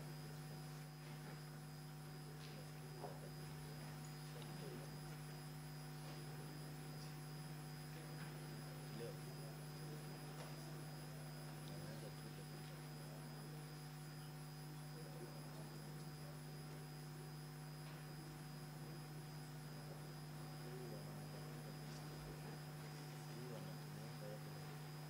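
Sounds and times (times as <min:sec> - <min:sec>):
electrical mains hum: 0:00.0 - 0:25.0
faint high-pitched whine: 0:00.0 - 0:25.0.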